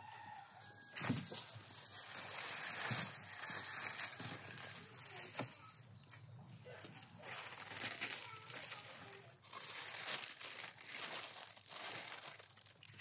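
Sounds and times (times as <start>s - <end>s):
paper and foil crinkling: 0.1s - 5.9s, 6.7s - 13.0s.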